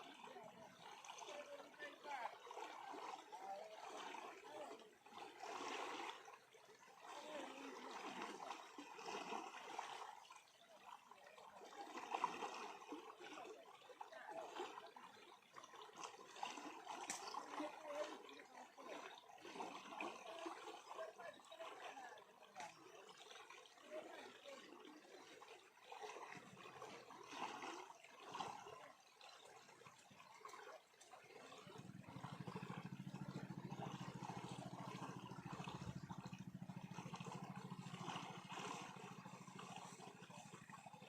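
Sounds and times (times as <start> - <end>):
flowing water burbling: 0.0 - 41.0.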